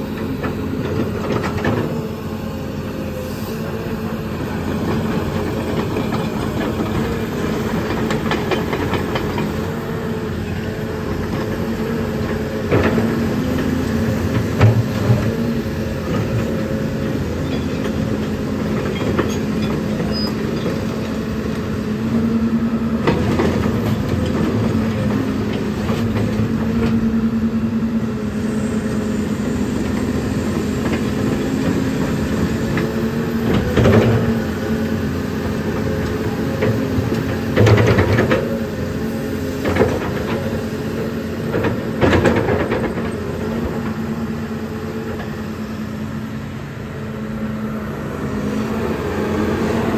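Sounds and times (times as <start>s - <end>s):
excavator engine drone: 0.0s - 49.9s.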